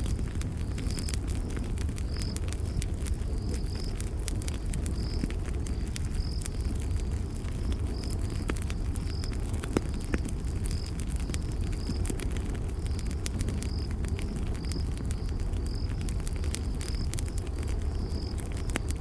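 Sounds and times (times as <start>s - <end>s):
campfire crackling and popping: 0.0s - 19.0s
crickets chirping: 0.0s - 19.0s.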